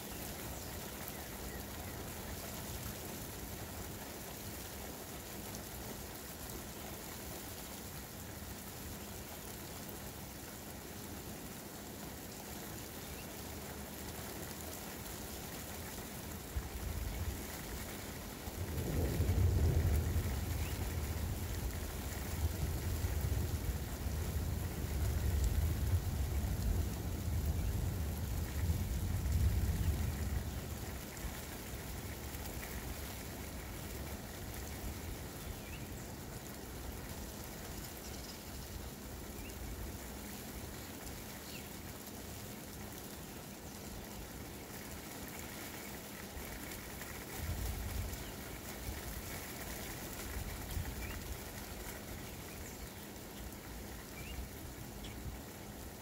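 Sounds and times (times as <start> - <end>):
rain on street and cars: 0.0 - 56.0.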